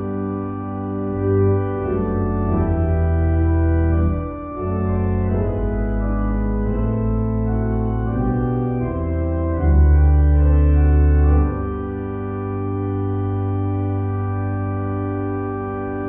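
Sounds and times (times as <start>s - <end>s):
organ playing sustained chords: 0.0s - 16.0s.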